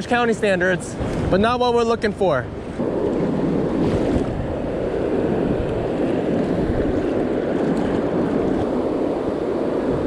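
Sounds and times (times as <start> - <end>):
ocean surf rushing: 0.0 - 10.0
wind buffeting microphone: 0.0 - 10.0.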